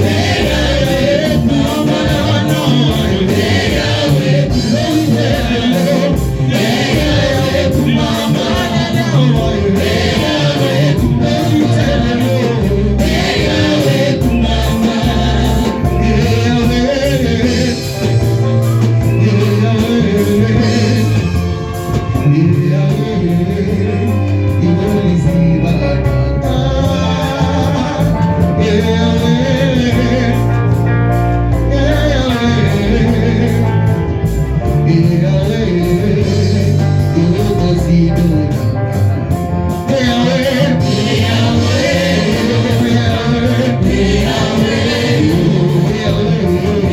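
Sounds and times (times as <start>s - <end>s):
people singing gospel music: 0.0s - 46.9s
steady bass: 0.0s - 46.9s.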